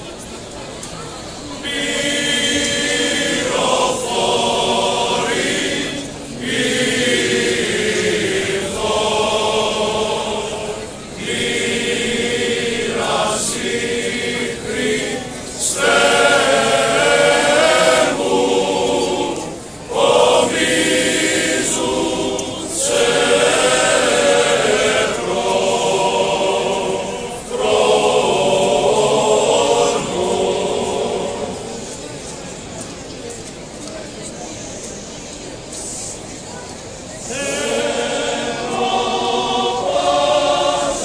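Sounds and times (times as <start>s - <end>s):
male choir singing a hymn: 1.6s - 32.2s, 37.1s - 41.0s.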